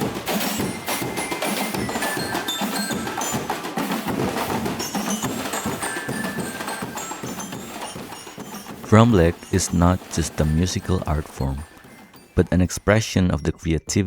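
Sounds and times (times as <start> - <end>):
percussion on barrels and cans: 0.0 - 14.0
ringing high melodic notes: 0.0 - 14.0.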